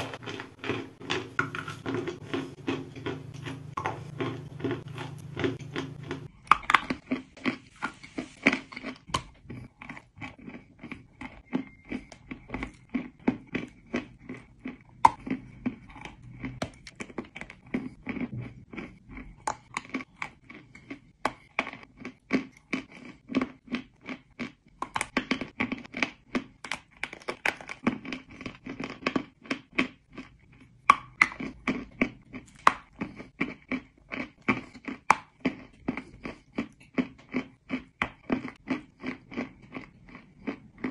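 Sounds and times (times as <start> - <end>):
chalk crunching being chewed: 0.0 - 40.9.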